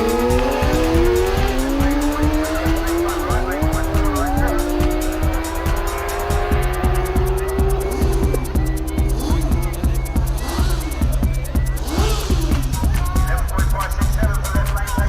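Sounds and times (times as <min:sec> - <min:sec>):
background music with steady beat: 0:00.0 - 0:15.0
motorcycle engines accelerating: 0:00.0 - 0:15.0.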